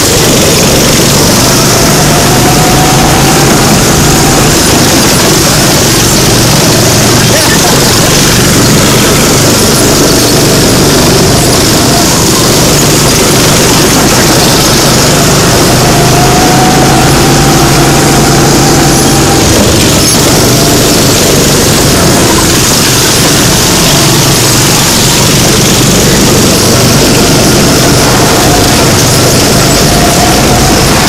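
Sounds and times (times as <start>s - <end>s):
go-kart engines running: 0.0s - 31.0s
rush of noise: 0.0s - 31.0s.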